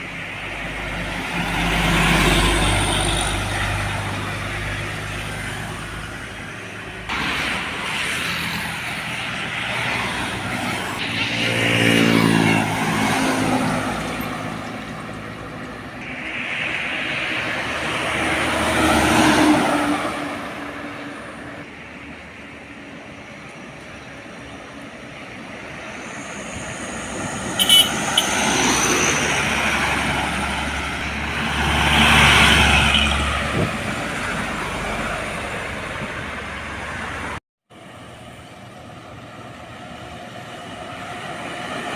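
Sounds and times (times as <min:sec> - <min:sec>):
highway traffic passing: 0:00.0 - 0:41.9.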